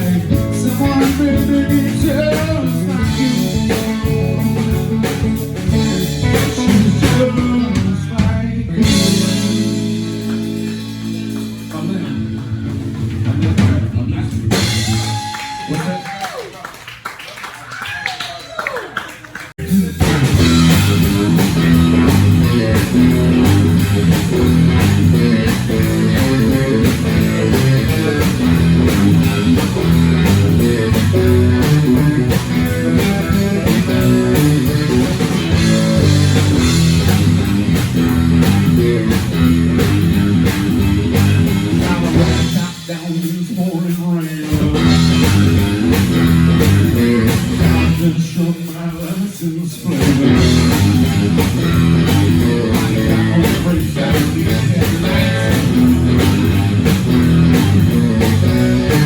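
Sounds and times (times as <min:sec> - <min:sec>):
blues-rock band playing: 0:00.0 - 0:16.0, 0:19.6 - 0:59.0.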